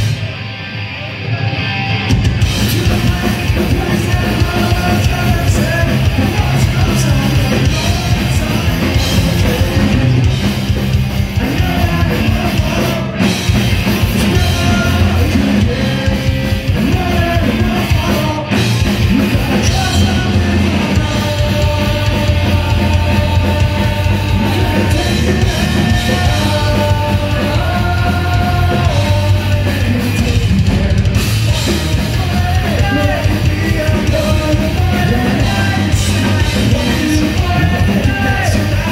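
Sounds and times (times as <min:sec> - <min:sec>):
punk rock band playing live: 0:00.0 - 0:38.9
person singing: 0:01.2 - 0:13.3, 0:14.0 - 0:38.9.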